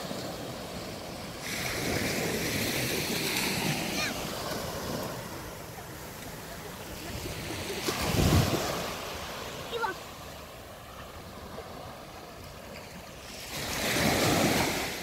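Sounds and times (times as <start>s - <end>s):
small waves breaking on sand: 0.0s - 15.0s.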